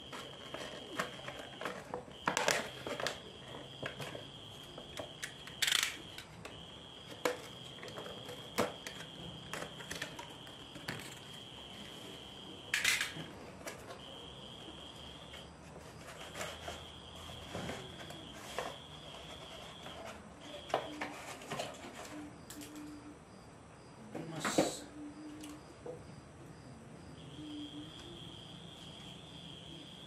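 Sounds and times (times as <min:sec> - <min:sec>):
cricket trilling: 0:00.0 - 0:30.0.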